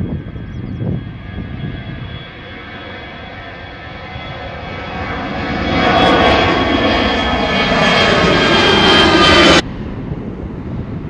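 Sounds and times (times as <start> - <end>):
jet engines at takeoff thrust: 0.0 - 11.0
wind rush on microphone: 0.0 - 11.0.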